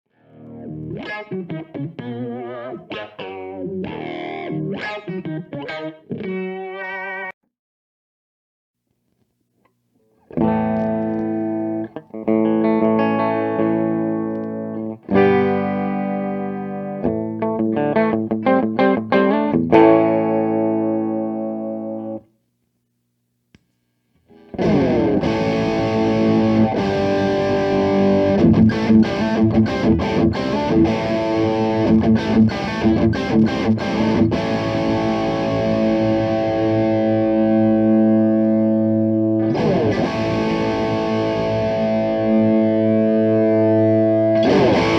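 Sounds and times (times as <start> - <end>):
distorted electric guitar: 0.2 - 7.3, 10.2 - 22.3, 24.3 - 44.9.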